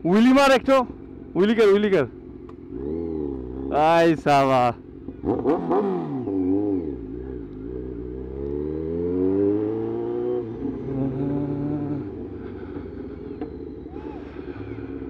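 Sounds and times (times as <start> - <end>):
motorcycle engine accelerating: 0.2 - 15.0.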